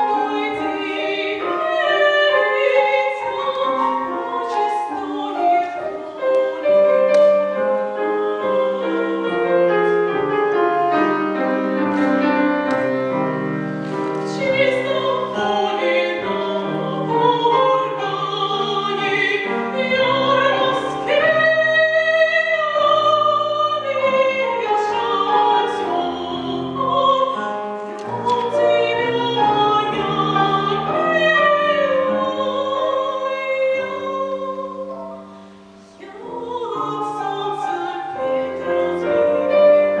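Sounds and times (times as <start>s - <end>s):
piano accompaniment: 0.0s - 40.0s.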